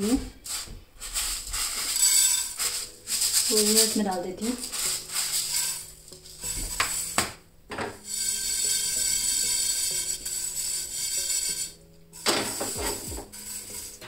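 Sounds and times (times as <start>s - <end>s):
spice seeds rustling in a pan: 0.0s - 7.4s, 8.0s - 14.0s
soft background music: 0.0s - 14.0s.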